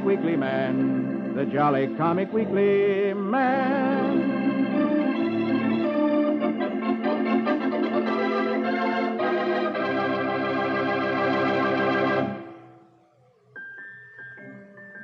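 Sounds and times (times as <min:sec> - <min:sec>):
organ chords: 0:00.0 - 0:15.0.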